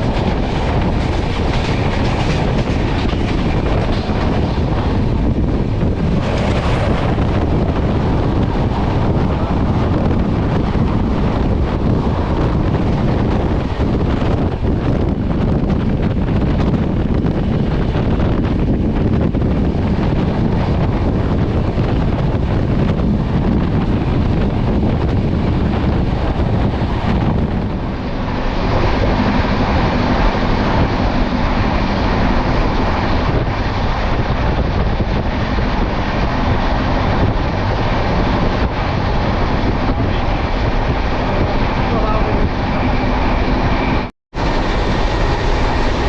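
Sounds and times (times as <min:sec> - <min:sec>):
train rumbling at speed: 0:00.0 - 0:46.0
wind buffeting microphone: 0:00.0 - 0:46.0.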